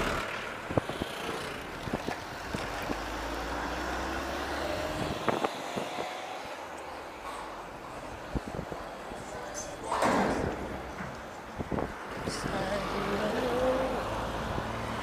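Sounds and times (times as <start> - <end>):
wind and bicycle road noise: 0.0 - 15.0.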